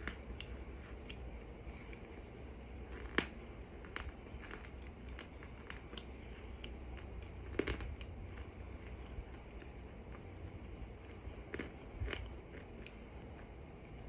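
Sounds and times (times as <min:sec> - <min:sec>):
chewing crunches: 0:00.0 - 0:14.0.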